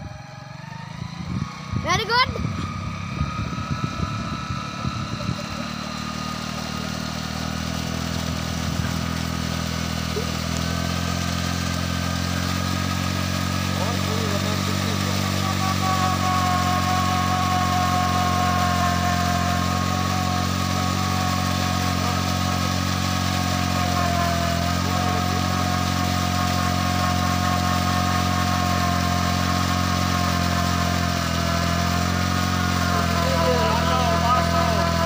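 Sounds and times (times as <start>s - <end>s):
motorcycle engine running under load: 0.0s - 35.0s
water pump whine: 0.0s - 35.0s
water gushing from pipe: 0.6s - 35.0s.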